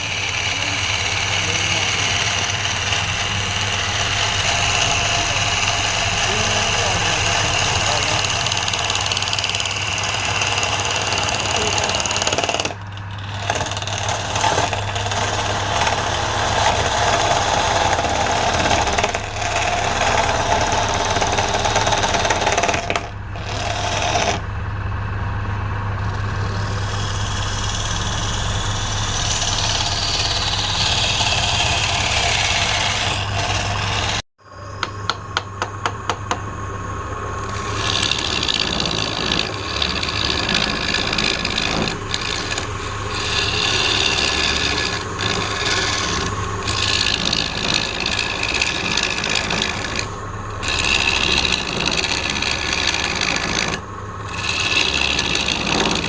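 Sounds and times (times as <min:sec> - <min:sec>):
lathe motor hum: 0:00.0 - 0:56.0
tool cutting spinning wood: 0:00.0 - 0:56.0.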